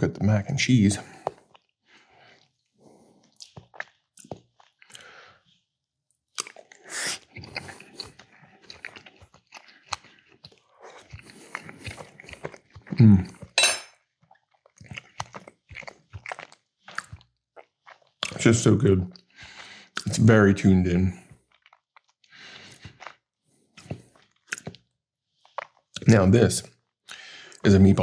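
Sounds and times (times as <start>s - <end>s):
close chewing with mouth smacks: 1.1s - 5.5s, 6.3s - 18.5s, 19.1s - 20.2s, 21.3s - 27.7s.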